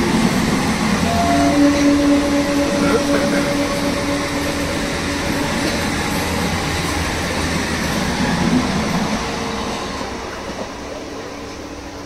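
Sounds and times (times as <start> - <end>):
train rumbling and rattling on rails: 0.0 - 12.0.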